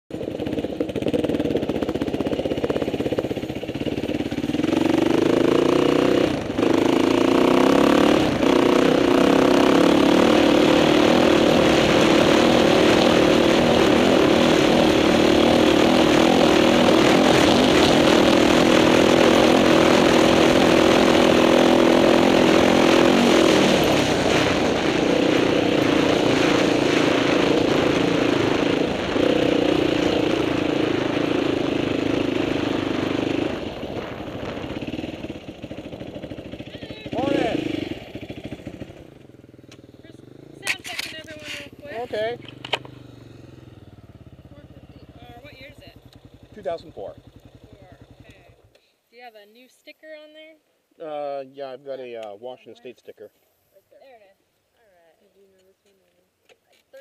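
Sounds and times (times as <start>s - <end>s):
motorcycle engine accelerating: 0.1s - 48.8s.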